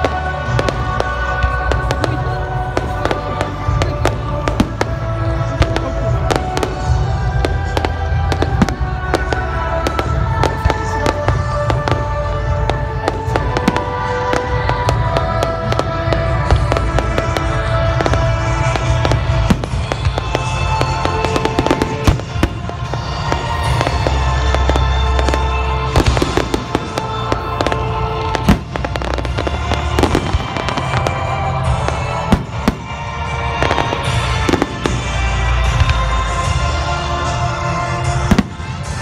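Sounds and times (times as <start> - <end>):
fireworks bangs: 0.0 - 37.4
music with held tones: 0.0 - 39.0.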